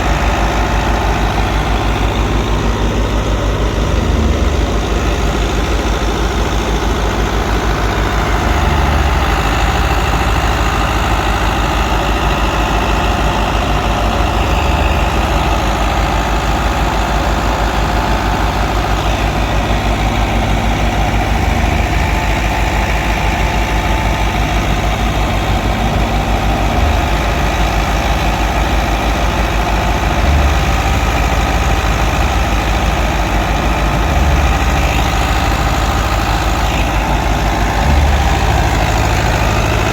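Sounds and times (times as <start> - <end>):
thresher machinery noise: 0.0 - 39.9
tractor diesel engine running: 0.0 - 39.9.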